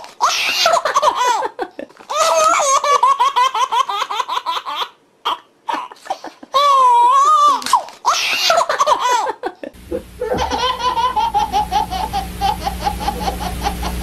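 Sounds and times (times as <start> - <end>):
childlike giggling: 0.2 - 4.9, 5.7 - 14.0.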